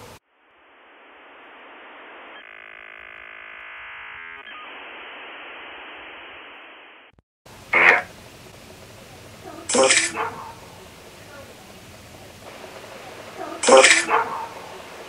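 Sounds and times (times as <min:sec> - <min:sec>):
buzzy steady tones: 0:00.0 - 0:15.0
static hiss through phone speaker: 0:00.0 - 0:15.0.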